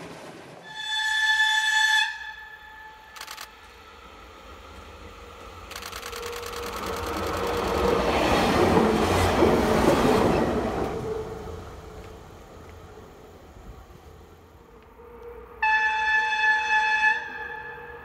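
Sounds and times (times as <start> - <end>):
diesel railcar passing: 0.0 - 18.0.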